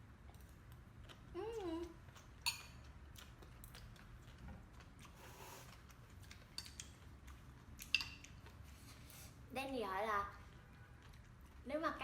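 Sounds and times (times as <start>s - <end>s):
faint chewing: 0.2s - 12.0s.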